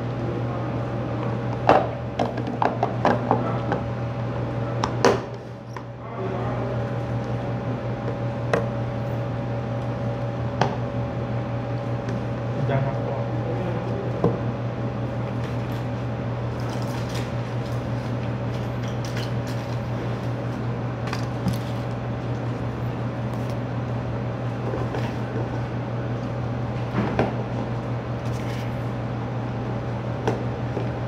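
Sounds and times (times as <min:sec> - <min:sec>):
air conditioner humming: 0:00.0 - 0:31.0.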